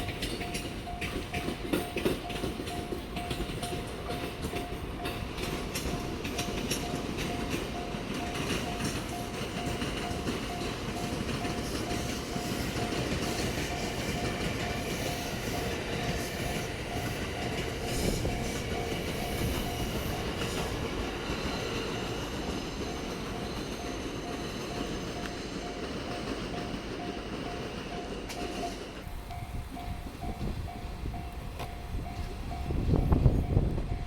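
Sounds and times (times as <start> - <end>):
crossing warning bell dinging: 0.0 - 34.0
train wheels rumbling on rails: 0.0 - 34.0.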